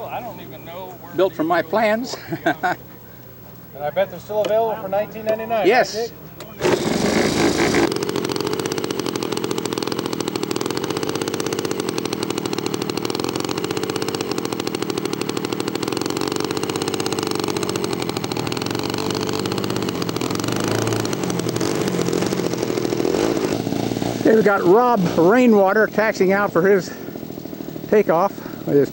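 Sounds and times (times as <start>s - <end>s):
model airplane engine running: 5.6s - 28.9s.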